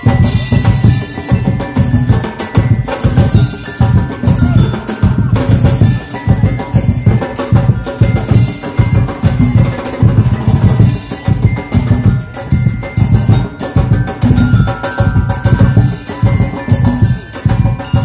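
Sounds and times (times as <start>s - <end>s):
fast drum beat: 0.0s - 18.0s
live band dance music: 0.0s - 18.0s.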